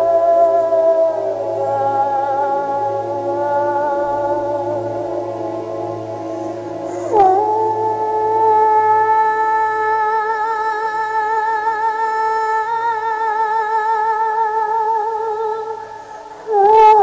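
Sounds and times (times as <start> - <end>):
wordless voice holding long note: 0.0 - 17.0.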